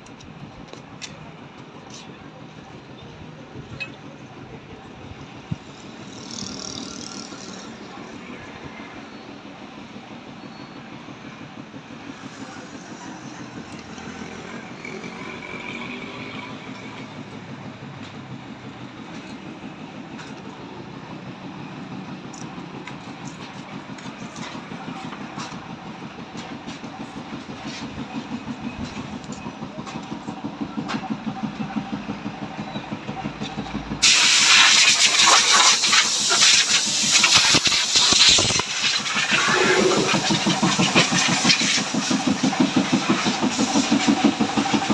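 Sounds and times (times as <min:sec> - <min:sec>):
harsh engine roar with hissing: 0:00.0 - 0:44.9
diesel engine idling: 0:00.1 - 0:44.9.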